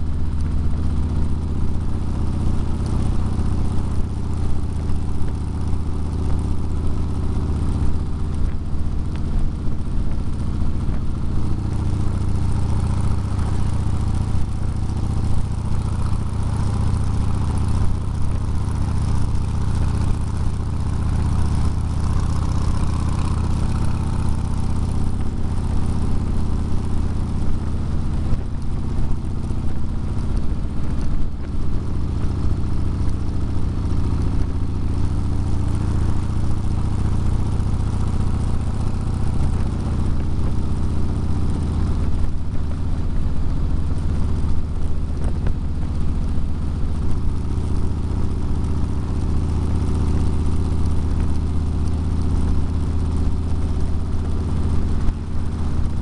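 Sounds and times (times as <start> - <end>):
vehicle engine hum: 0.0 - 56.0.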